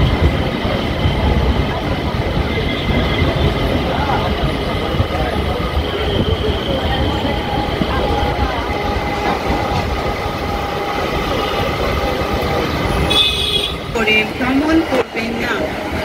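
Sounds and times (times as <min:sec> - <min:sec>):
electric train rumbling: 0:00.0 - 0:16.0
people talking: 0:00.6 - 0:12.8, 0:13.9 - 0:16.0.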